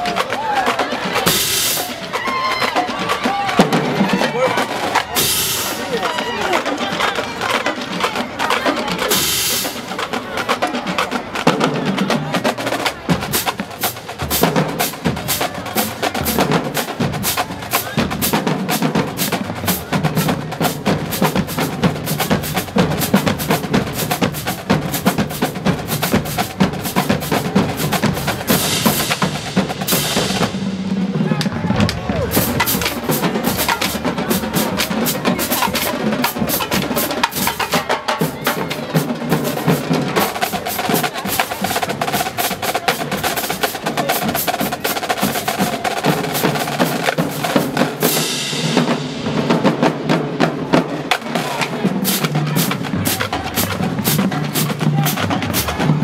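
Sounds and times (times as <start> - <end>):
snare drum rolls: 0.0 - 56.0.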